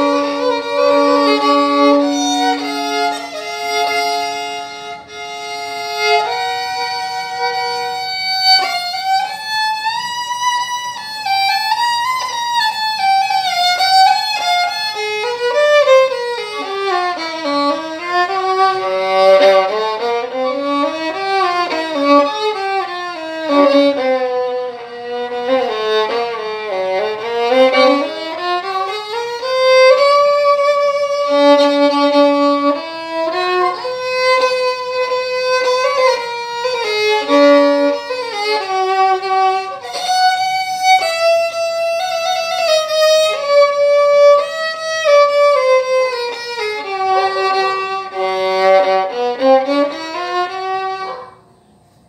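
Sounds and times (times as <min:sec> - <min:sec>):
solo violin bowed melody: 0:00.0 - 0:51.8.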